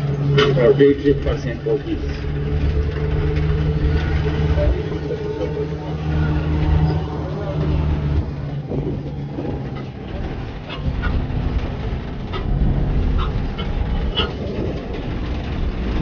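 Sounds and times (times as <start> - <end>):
vehicle driving over rough road: 0.0 - 16.0.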